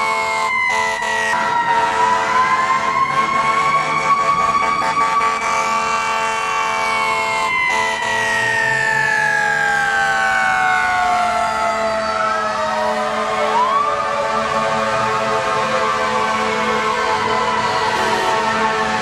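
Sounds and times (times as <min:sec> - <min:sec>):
fire engine siren wailing: 0:00.0 - 0:19.0.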